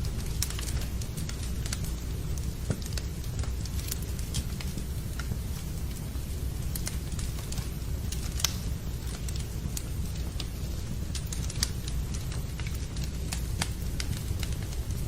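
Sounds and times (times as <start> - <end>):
rain: 0.0 - 15.0
wood fire crackling and popping: 0.0 - 15.0.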